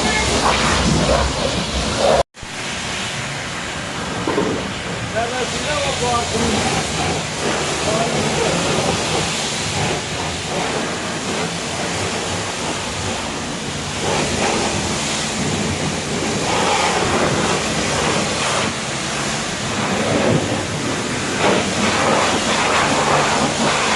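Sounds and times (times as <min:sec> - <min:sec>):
car wash hissing: 0:00.0 - 0:23.9.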